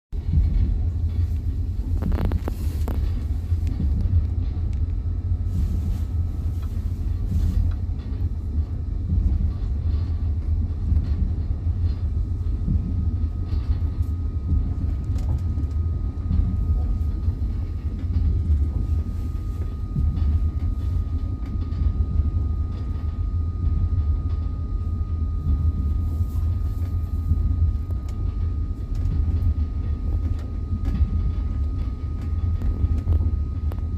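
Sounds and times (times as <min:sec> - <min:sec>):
train wheels rumbling on rails: 0:00.1 - 0:33.9.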